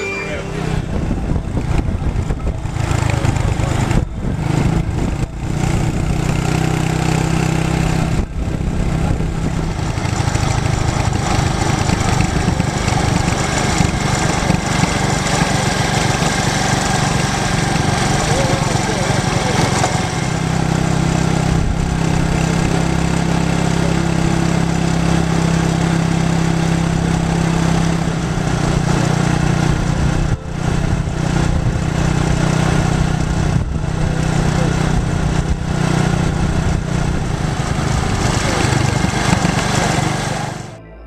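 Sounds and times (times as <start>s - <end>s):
road and wind noise: 0.0s - 41.0s
vehicle engine running: 0.0s - 41.0s.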